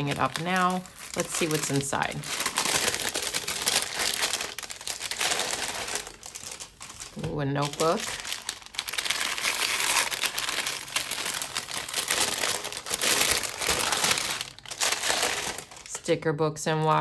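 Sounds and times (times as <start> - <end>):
packaging crinkling: 0.0 - 16.0.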